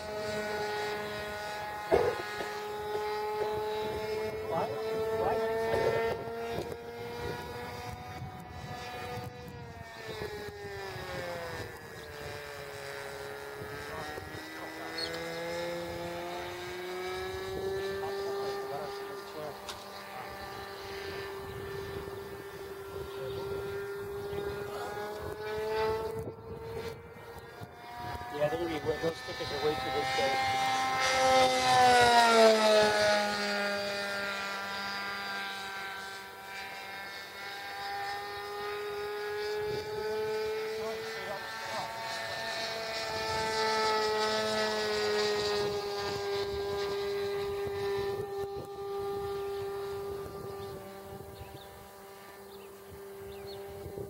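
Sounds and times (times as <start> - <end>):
model airplane motor whining: 0.0 - 54.0.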